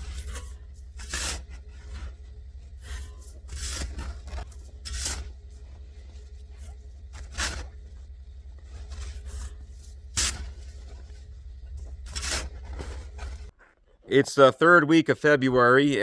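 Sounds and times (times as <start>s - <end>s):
snow shovel scraping snow: 0.0s - 13.5s
steady low rumble: 0.0s - 13.6s.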